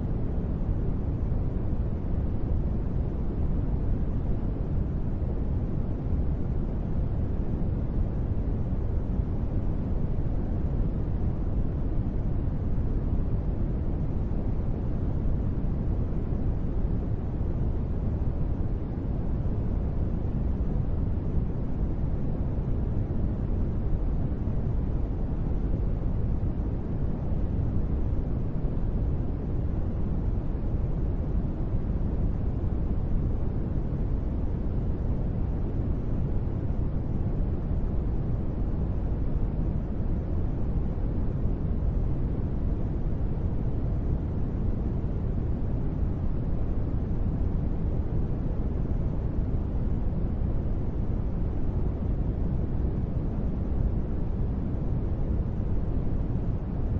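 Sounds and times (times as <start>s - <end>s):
deep white noise: 0.0s - 56.9s.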